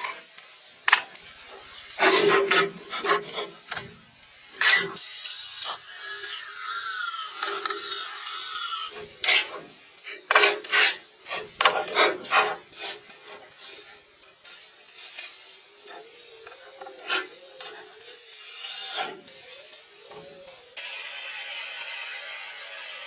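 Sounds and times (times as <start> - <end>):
scraping strokes on wood: 0.0 - 20.8.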